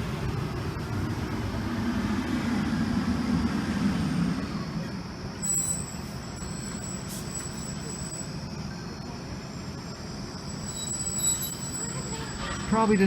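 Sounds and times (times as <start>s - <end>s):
fire truck engine rumbling: 0.0s - 13.0s.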